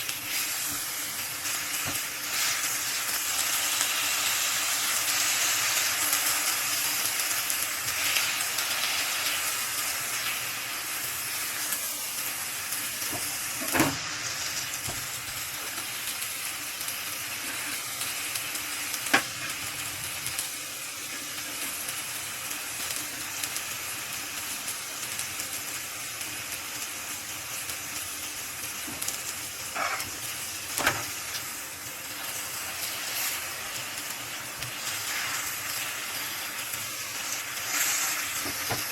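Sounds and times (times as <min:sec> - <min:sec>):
food sizzling in oil: 0:00.0 - 0:38.9.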